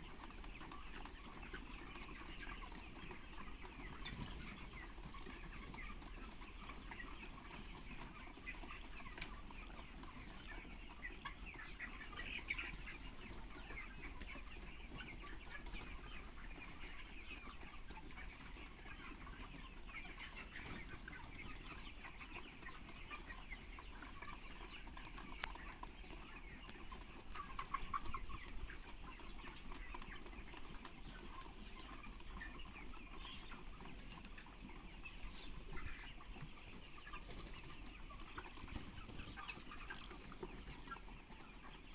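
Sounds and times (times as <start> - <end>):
chickens chirping and clucking: 0.0 - 41.9.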